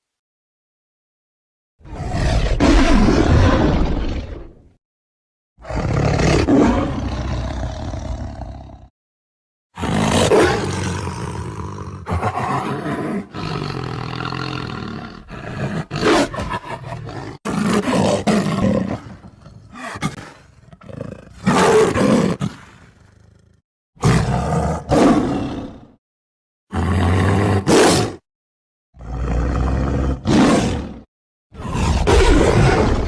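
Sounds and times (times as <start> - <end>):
tiger roaring: 1.8 - 4.7, 5.6 - 8.9, 9.8 - 26.0, 26.7 - 28.2, 29.0 - 33.0.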